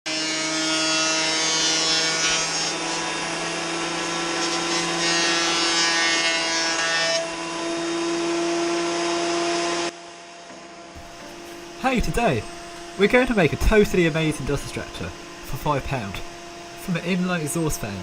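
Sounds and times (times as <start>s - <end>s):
power tool cutting wood: 0.1s - 18.0s.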